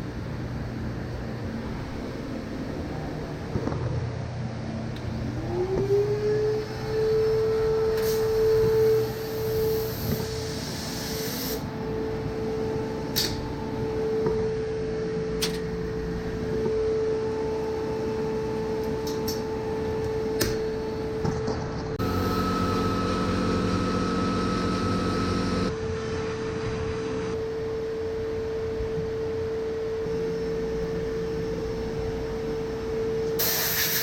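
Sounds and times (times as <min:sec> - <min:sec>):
deeper drone: 0:00.0 - 0:33.4
steady machine hum: 0:00.0 - 0:33.8.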